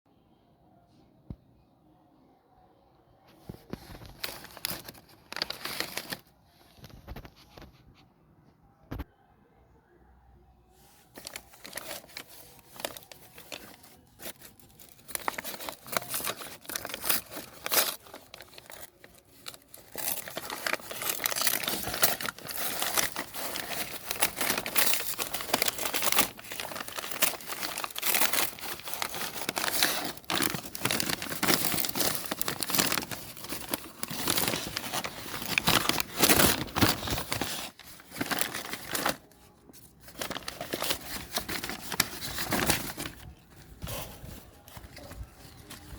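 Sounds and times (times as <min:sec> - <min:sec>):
packaging crinkling and rustling: 0:03.4 - 0:07.7, 0:10.9 - 0:45.9
packaging tearing: 0:04.0 - 0:06.2, 0:11.2 - 0:45.9.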